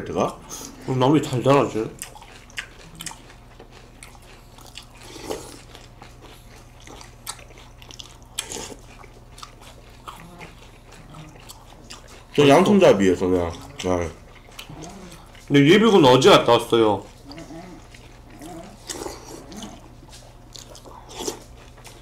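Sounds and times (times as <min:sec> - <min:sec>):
chewing crunchy cereal: 0:00.6 - 0:22.0.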